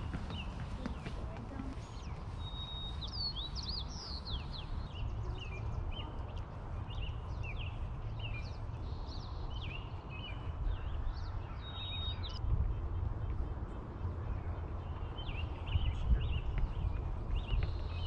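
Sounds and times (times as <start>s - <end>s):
songbirds chirping and singing: 0.0s - 18.0s.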